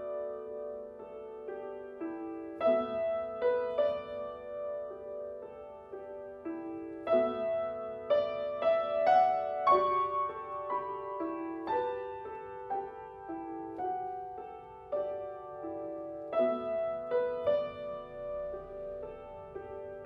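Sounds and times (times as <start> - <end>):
solo grand piano: 0.0 - 20.0.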